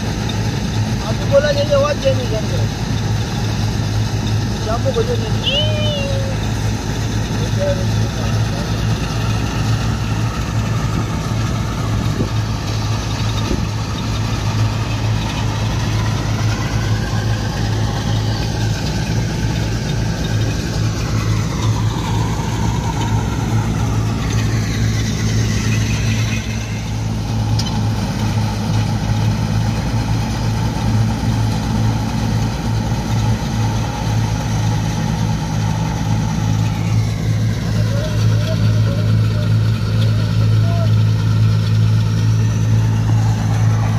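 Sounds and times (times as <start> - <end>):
thresher drum and blower whir: 0.0 - 43.9
tractor diesel engine under load: 0.0 - 43.9.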